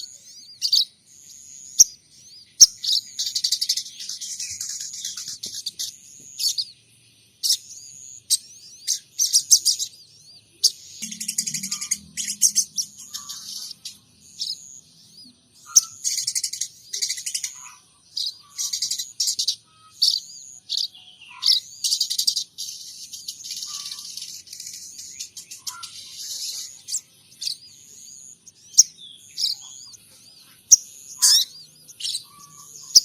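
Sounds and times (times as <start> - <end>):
songbird chirping and trilling: 0.0 - 33.0.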